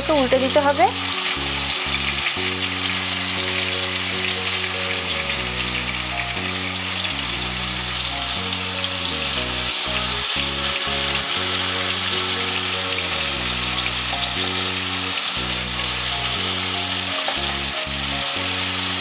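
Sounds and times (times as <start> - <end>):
background music of low notes: 0.0 - 19.0
fish sizzling in hot oil: 0.0 - 19.0.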